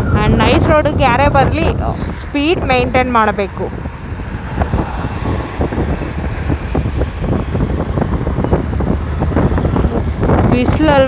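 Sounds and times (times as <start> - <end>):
motorbike running: 0.0 - 11.0
road noise: 0.0 - 11.0
wind buffeting microphone: 0.0 - 11.0.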